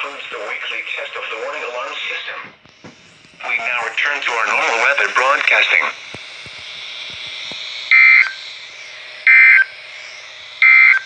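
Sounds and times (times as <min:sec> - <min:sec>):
steady receiver hiss: 0:00.0 - 0:09.0.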